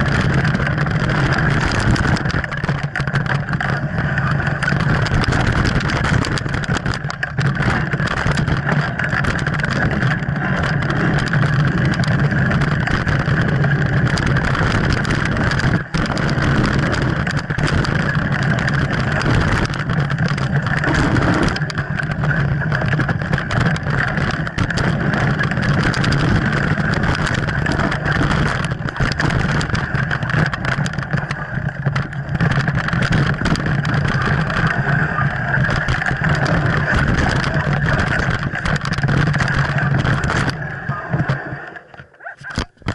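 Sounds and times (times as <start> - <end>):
bike rattling clicks: 0.0 - 42.9
wind and tyre rumble: 0.0 - 42.9.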